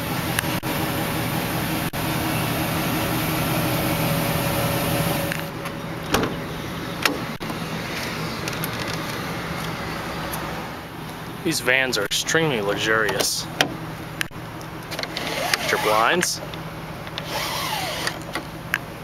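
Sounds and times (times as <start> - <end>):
van engine idling: 0.0 - 19.0.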